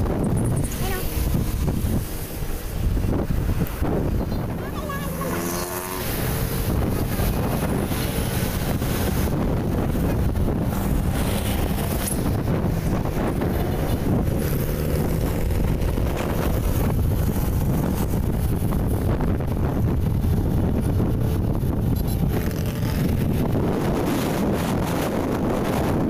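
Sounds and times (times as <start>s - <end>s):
vehicle road noise: 0.0s - 26.0s
wind buffeting microphone: 0.0s - 26.0s.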